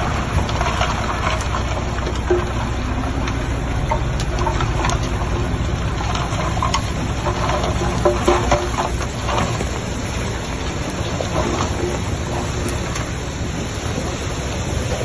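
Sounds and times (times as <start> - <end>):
crackles and clanks: 0.0 - 15.0
heavy diesel engine running: 0.0 - 15.0.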